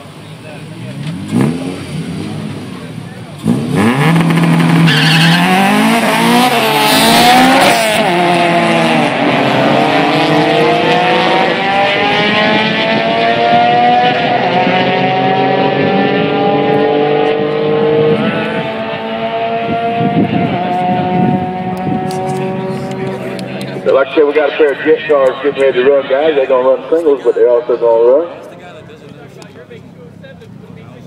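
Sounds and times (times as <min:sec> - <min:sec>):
race cars accelerating: 0:00.0 - 0:31.0.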